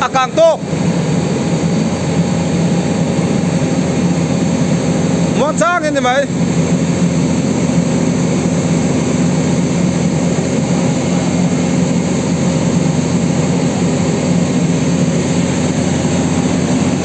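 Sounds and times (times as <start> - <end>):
diesel engine low drone: 0.0 - 17.0.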